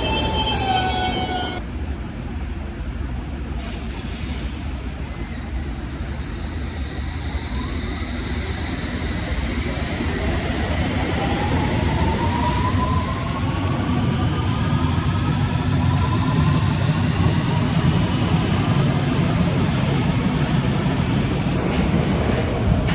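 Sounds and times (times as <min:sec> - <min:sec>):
train low rumble: 0:00.0 - 0:22.9.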